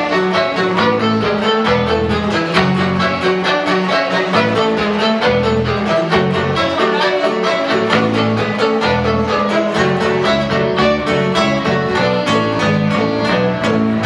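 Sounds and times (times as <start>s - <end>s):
country band playing: 0.0s - 14.0s
fiddle playing: 0.0s - 14.0s.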